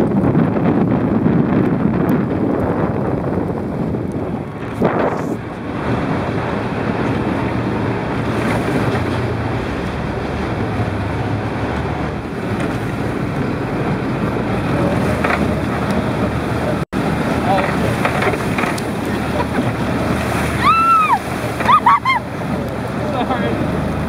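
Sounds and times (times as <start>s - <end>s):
buggy engine running: 0.0s - 24.0s
wind buffeting microphone: 0.0s - 24.0s.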